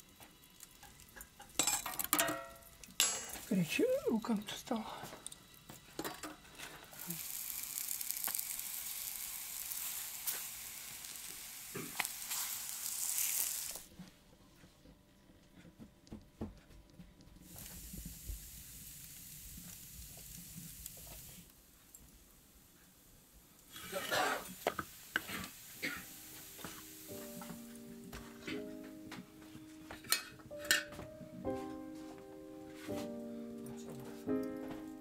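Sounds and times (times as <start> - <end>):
dough sizzling in a frying pan: 0.0 - 13.9, 17.4 - 31.7.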